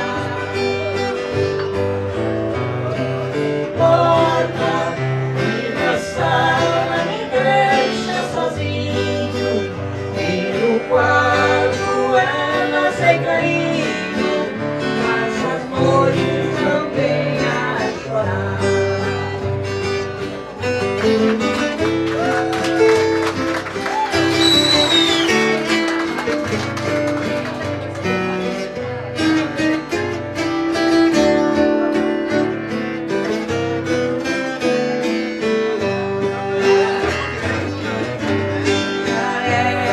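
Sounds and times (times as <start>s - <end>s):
guitar accompaniment: 0.0s - 39.9s
ten-string guitar playing lively tune: 0.0s - 39.9s.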